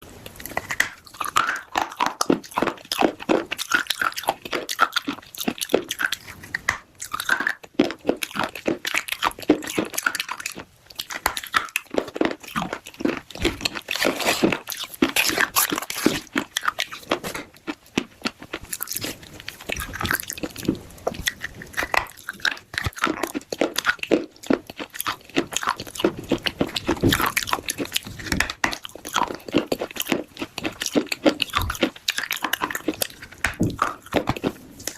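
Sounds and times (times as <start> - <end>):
crunching of clay being chewed: 0.2 - 34.9.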